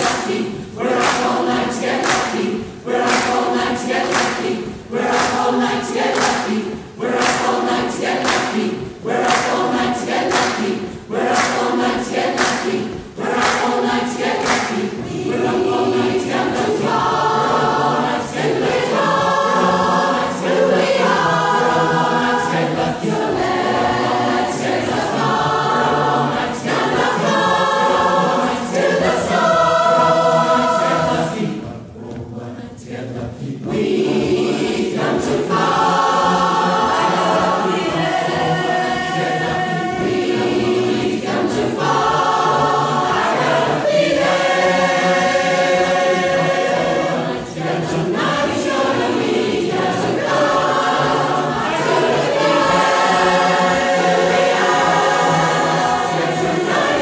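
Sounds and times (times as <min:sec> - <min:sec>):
choir singing in chords: 0:00.0 - 0:57.0.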